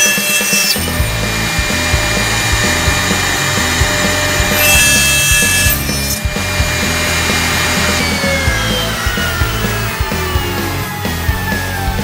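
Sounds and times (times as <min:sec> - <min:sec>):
wood lathe cutting wood: 0:00.0 - 0:12.0
background music with low beat: 0:00.8 - 0:12.0.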